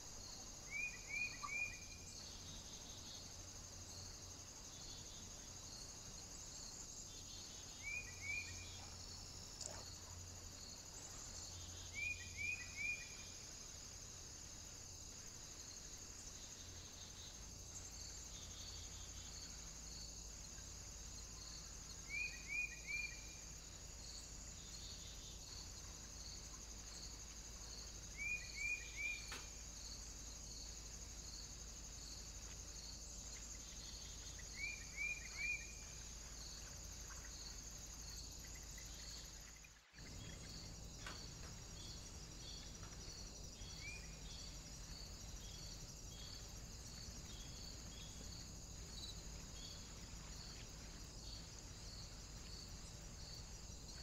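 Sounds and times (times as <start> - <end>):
faint insect trill: 0.0 - 54.0
songbird chirping: 0.0 - 54.0.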